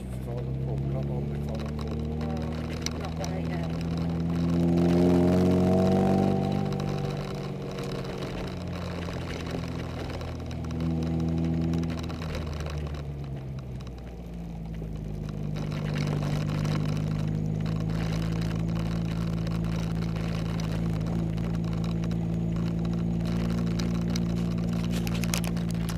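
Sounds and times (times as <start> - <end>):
sports car engine accelerating: 0.0 - 25.9.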